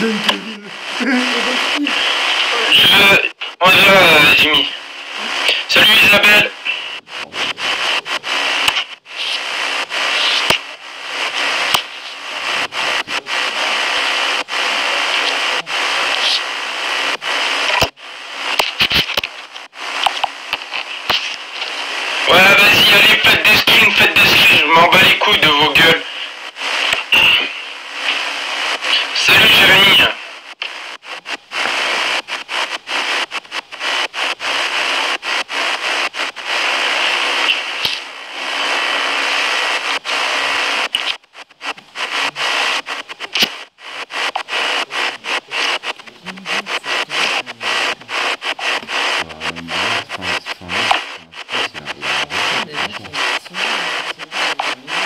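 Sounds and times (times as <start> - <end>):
loud steady hiss: 0.0 - 55.0.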